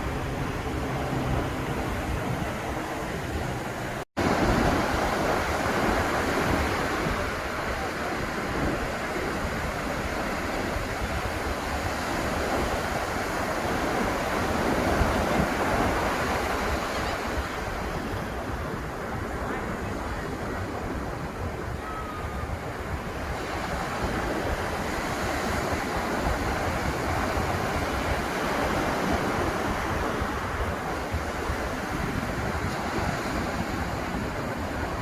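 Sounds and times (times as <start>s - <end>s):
ocean surf breaking: 0.0s - 35.0s
wind on microphone: 0.0s - 35.0s.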